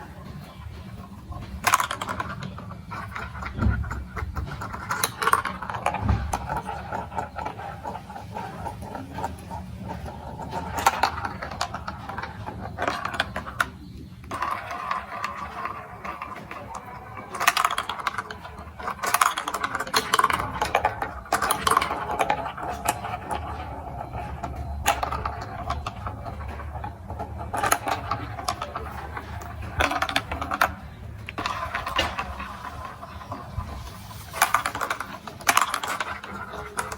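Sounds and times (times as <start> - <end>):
marbles rolling on plastic run: 0.0 - 36.9.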